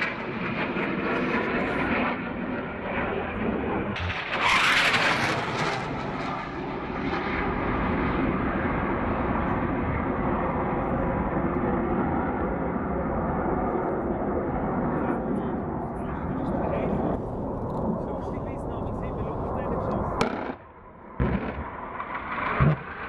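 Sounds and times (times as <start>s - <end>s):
jet passing with sharp rush: 0.0s - 13.5s, 16.0s - 23.0s
jet engines rumbling: 0.0s - 23.0s.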